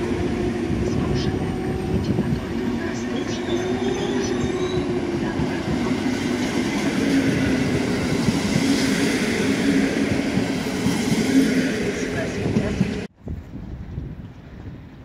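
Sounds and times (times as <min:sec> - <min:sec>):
train wheels rolling on rails: 0:00.0 - 0:13.1.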